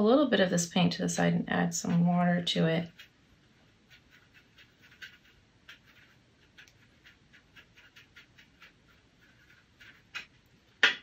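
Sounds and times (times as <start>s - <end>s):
brush dabbing in metal tin: 1.2s - 10.8s.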